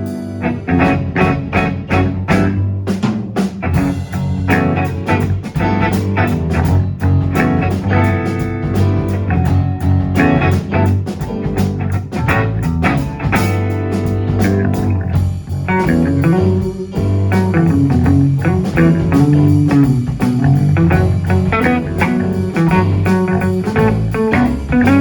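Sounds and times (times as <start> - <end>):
blues-rock band playing: 0.0 - 25.0.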